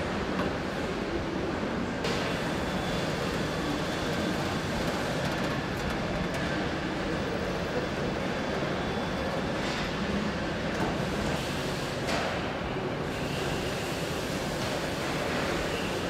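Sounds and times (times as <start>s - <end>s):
factory floor rumble and hiss: 0.0s - 16.0s.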